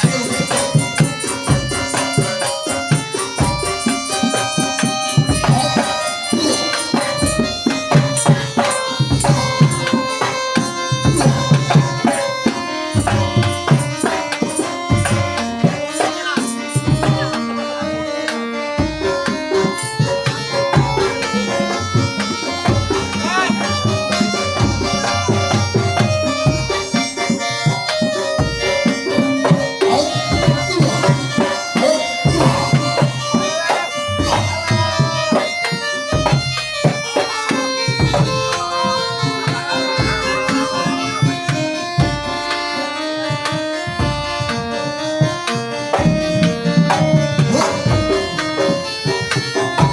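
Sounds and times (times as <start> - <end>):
hand drums beating: 0.0 - 49.9
wavering wind instrument melody: 0.0 - 49.9.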